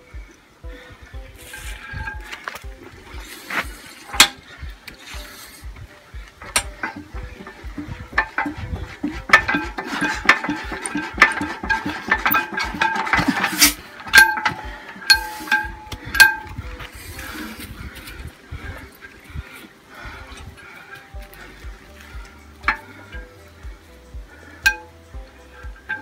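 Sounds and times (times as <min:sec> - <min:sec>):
engine low thudding: 0:00.0 - 0:26.0.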